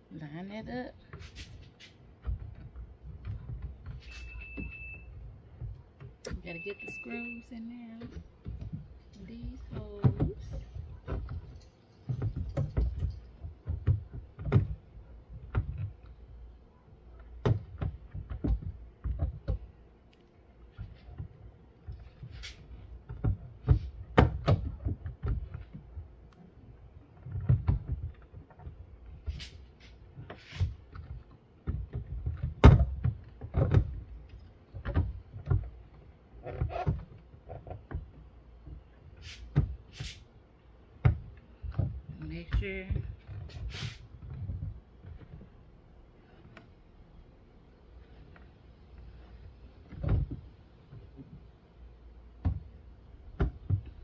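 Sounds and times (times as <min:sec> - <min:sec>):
plastic knocks clicks and scrapes: 0:01.0 - 0:06.5, 0:07.7 - 0:40.1, 0:40.9 - 0:46.9, 0:47.8 - 0:51.6, 0:52.3 - 0:54.0.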